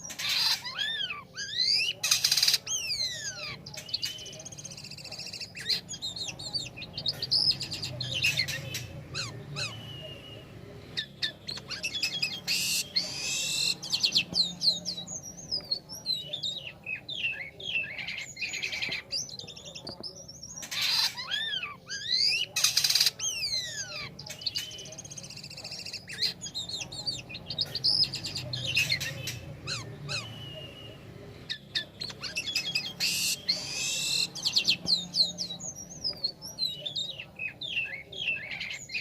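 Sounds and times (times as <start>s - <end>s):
starling singing whistles: 0.0s - 39.0s.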